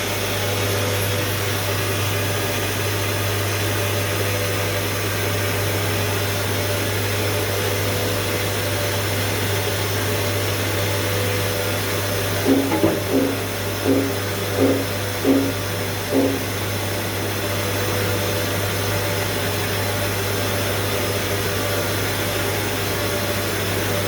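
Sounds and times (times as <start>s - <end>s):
machine humming steadily: 0.0s - 23.1s.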